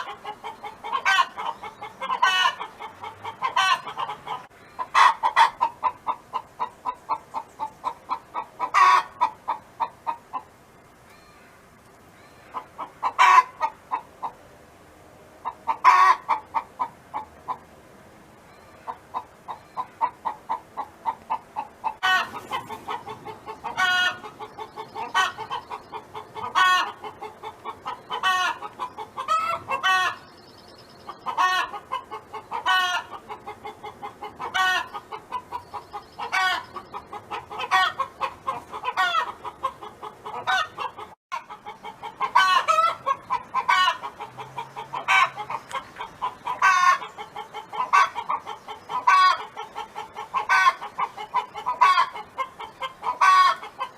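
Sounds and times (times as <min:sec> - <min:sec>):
hen clucking: 0:00.0 - 0:10.6, 0:12.2 - 0:14.4, 0:15.4 - 0:17.7, 0:18.6 - 0:53.9.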